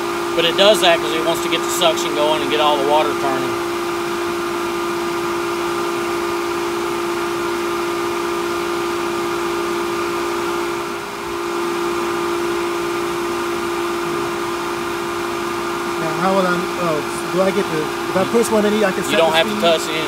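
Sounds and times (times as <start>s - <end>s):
pool pump humming: 0.0s - 20.0s.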